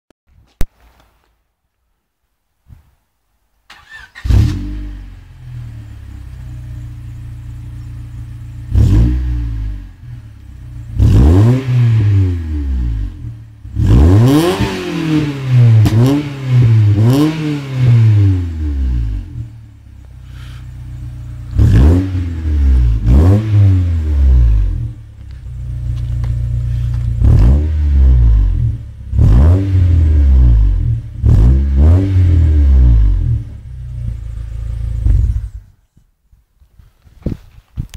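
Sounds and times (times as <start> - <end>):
car engine starting: 3.7 - 35.8
car engine idling and revving: 3.8 - 35.9.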